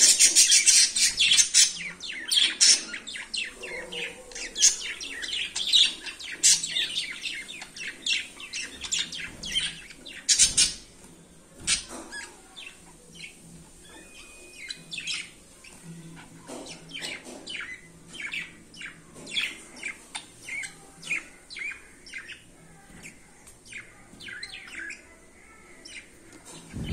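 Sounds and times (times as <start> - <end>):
budgerigars chirping: 0.0 - 25.2.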